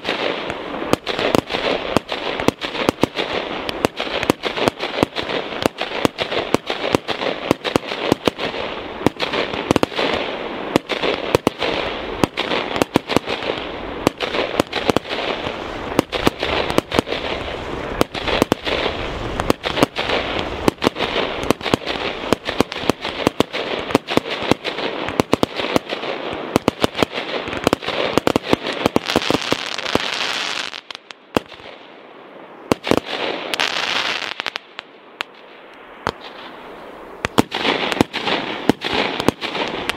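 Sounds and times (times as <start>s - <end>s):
fireworks bangs: 0.0s - 32.0s, 32.6s - 39.9s
fireworks crackling: 0.0s - 39.9s.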